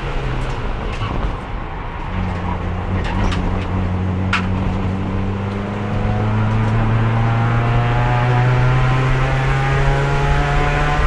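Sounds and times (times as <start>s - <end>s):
race car engine revving: 2.0s - 11.0s.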